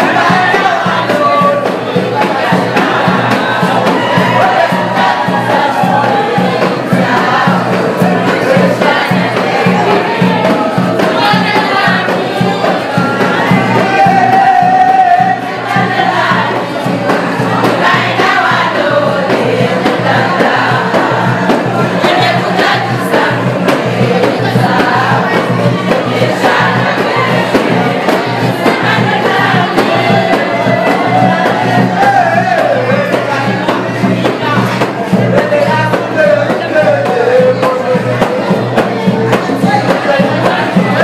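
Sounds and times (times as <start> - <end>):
women singing in chorus: 0.0 - 41.0.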